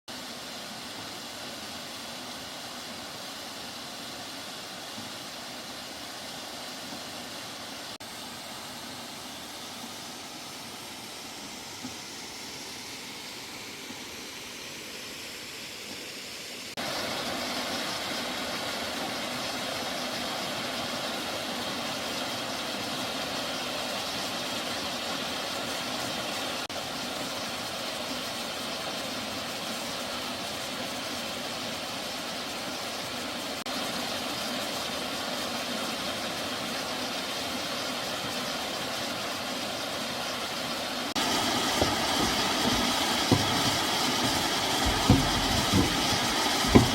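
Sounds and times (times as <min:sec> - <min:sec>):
rushing stream and waterfall: 0:00.1 - 0:46.9.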